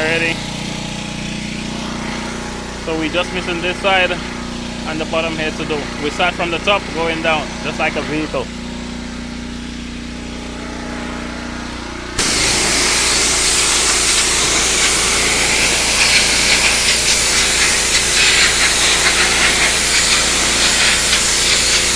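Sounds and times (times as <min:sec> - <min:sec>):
high-pressure water spraying: 0:00.0 - 0:10.0, 0:12.2 - 0:21.9
pressure washer engine running: 0:00.0 - 0:21.9.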